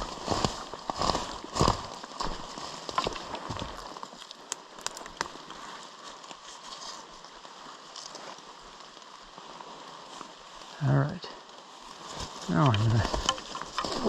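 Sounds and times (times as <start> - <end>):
footsteps through wet undergrowth: 0.0 - 14.0.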